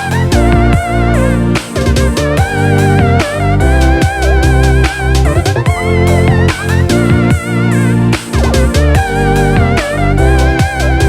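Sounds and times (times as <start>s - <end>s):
electric guitar music with beat: 0.0s - 11.0s.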